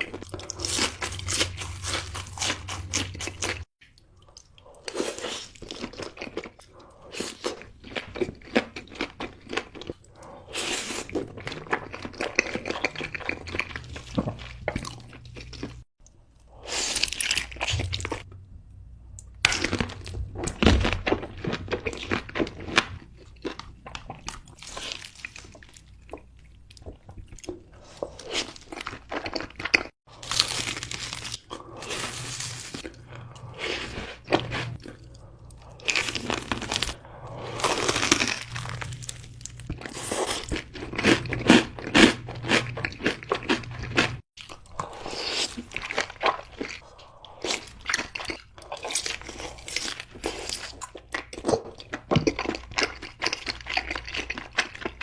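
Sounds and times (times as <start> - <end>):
crunchy chewing: 0.0 - 15.9, 19.4 - 55.0.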